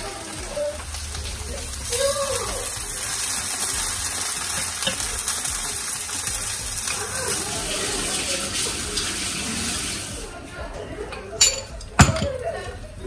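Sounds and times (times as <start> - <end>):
crepe sizzling in hot oil: 0.0 - 13.0.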